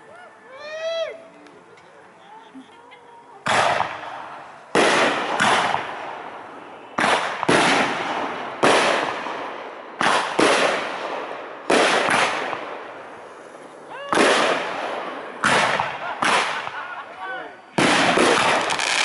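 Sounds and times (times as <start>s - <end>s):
firework shells booming: 3.4s - 19.0s.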